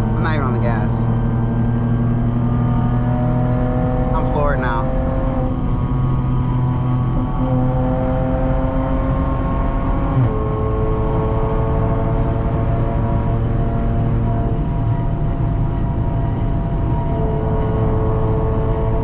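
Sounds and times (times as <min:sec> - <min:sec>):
car engine and exhaust droning: 0:00.0 - 0:19.0.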